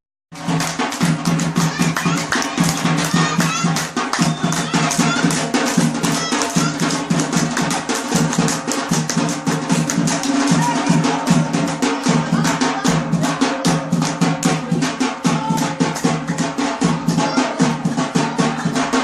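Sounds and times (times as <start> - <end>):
drums in fast dance rhythm: 0.3 - 19.0.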